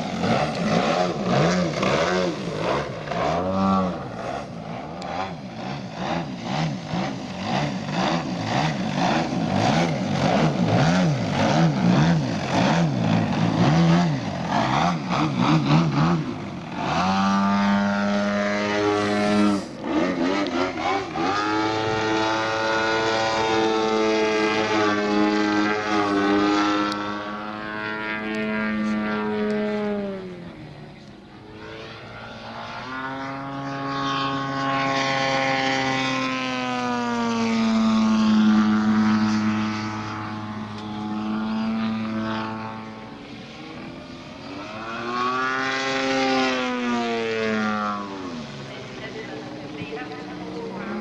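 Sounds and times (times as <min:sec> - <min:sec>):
model airplane engine revving: 0:00.0 - 0:51.0.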